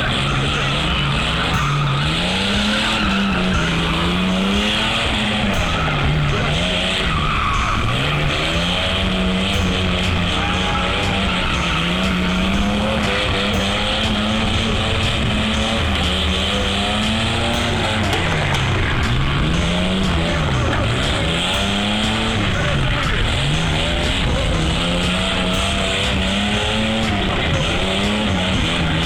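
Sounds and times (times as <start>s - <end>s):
tyres skidding and squealing: 0.0s - 29.0s
vehicle engine revving: 0.0s - 29.0s.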